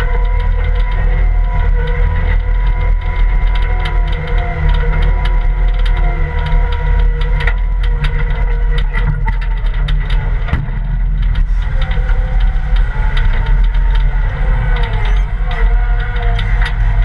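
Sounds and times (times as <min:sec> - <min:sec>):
diesel engine under load: 0:00.0 - 0:17.0
sharp rattling clicks: 0:00.0 - 0:17.0
steady whine: 0:00.0 - 0:17.0.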